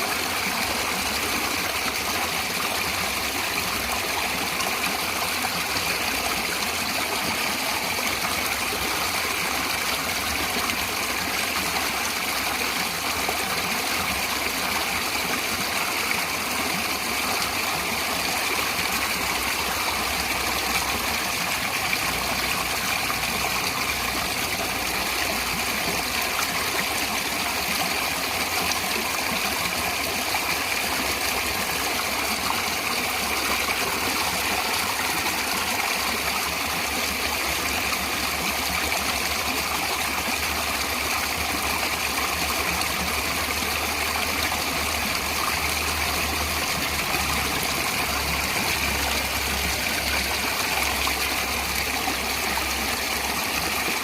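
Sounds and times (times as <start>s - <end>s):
stream water rushing and splashing: 0.0s - 54.0s.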